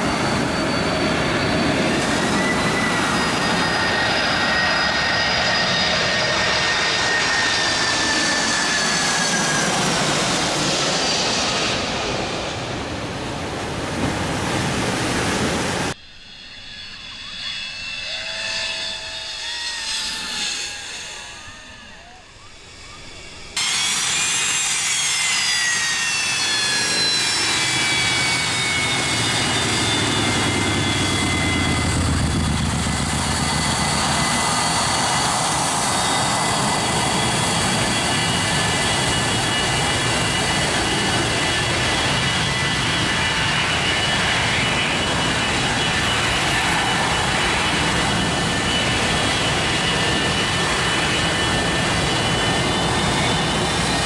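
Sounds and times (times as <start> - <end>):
jet engine rumble and roar: 0.0 - 54.0
jet engine whine: 0.0 - 54.0.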